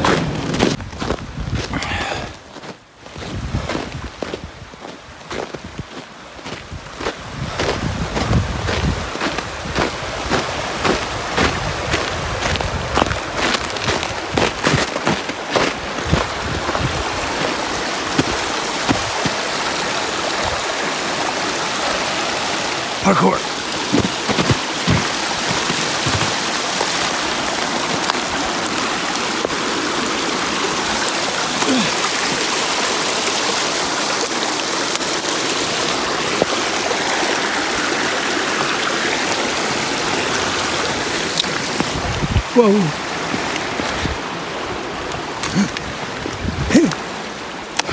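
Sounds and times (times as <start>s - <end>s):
creek running over rocks: 0.0s - 47.9s.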